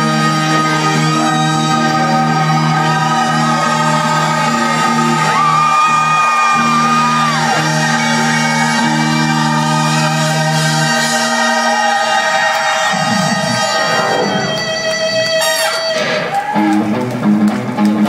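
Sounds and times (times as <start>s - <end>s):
live rock band: 0.0s - 18.0s
crowd shouting: 0.5s - 16.9s.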